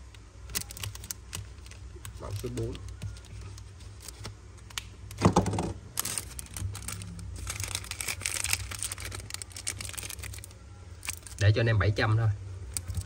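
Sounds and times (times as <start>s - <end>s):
crinkling rustles: 0.4s - 11.5s, 12.7s - 13.0s.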